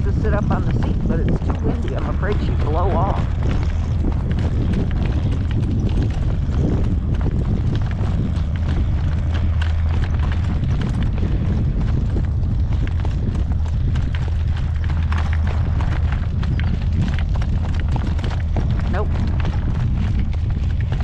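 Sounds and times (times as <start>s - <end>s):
horse hooves clip-clopping: 0.0s - 21.0s
wind buffeting microphone: 0.0s - 21.0s.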